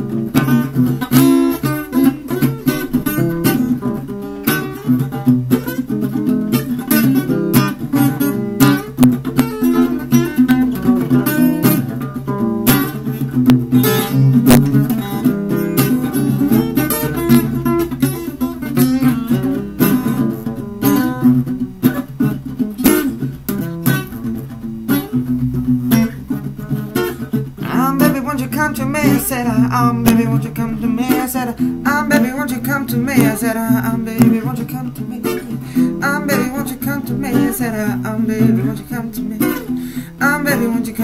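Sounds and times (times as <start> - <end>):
acoustic guitar funk groove: 0.0 - 41.0.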